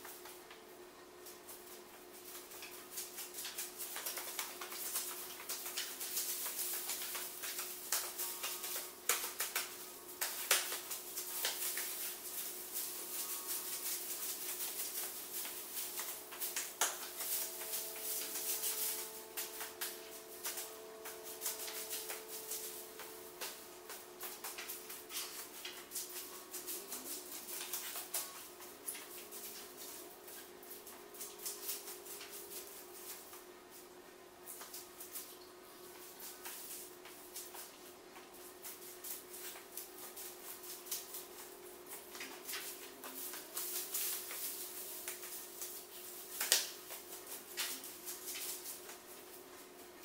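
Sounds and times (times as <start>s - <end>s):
faint steady hum: 0.0s - 50.0s
magnetic tape rustling and crackling: 0.0s - 50.0s.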